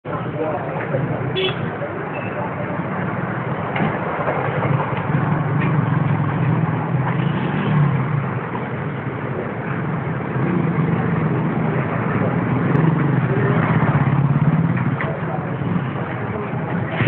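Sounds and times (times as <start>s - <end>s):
road traffic engines rumbling: 0.0s - 17.0s.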